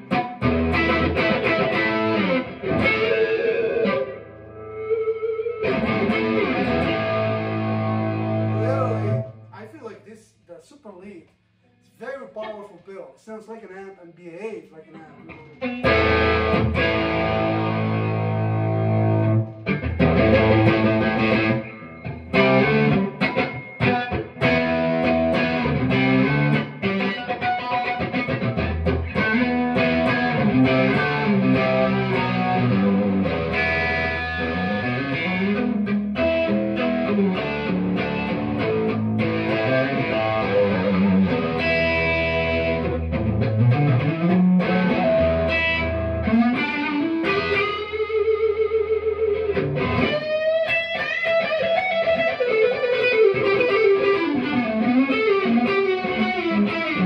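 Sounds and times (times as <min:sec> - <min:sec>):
overdriven electric guitar riffs: 0:00.0 - 0:09.5, 0:15.0 - 0:57.0.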